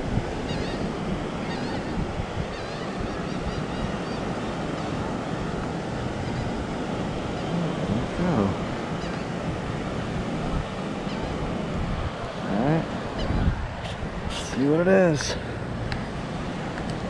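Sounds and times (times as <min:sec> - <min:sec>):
wind noise: 0:00.0 - 0:17.0.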